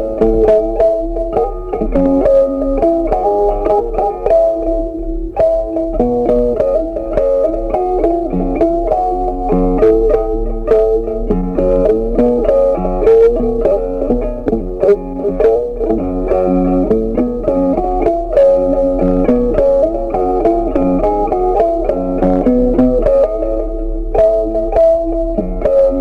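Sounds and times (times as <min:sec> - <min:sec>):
bass: 0:00.0 - 0:26.0
plucked guitar melody: 0:00.0 - 0:26.0.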